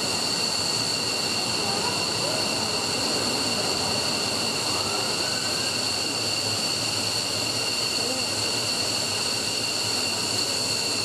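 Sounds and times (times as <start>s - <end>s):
jet engine roaring with whine: 0.0s - 11.0s.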